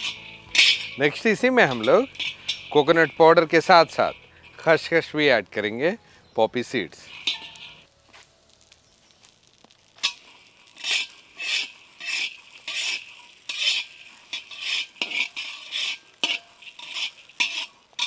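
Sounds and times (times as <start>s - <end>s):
spatula scraping nuts in a pan: 0.0s - 5.5s, 6.7s - 7.9s, 8.8s - 18.0s.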